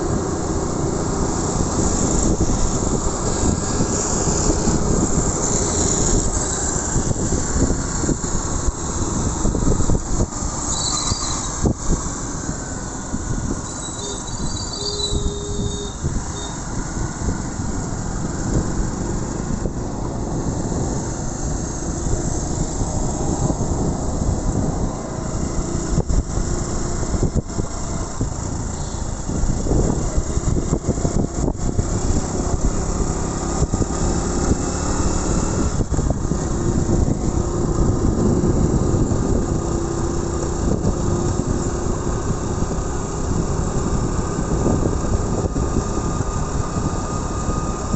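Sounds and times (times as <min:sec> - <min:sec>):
motorbike engine running: 0:00.0 - 0:47.9
wind rushing over microphone: 0:00.0 - 0:47.9.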